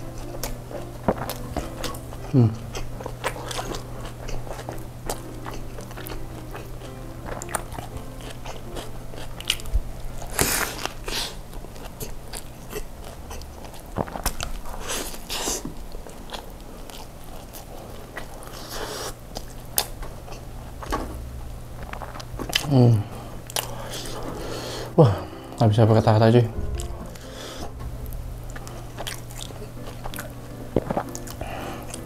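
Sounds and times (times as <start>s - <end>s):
close-miked chewing and biting: 0.0s - 21.0s, 21.6s - 25.0s, 26.6s - 32.0s
food crunching: 0.0s - 25.6s, 26.5s - 32.0s.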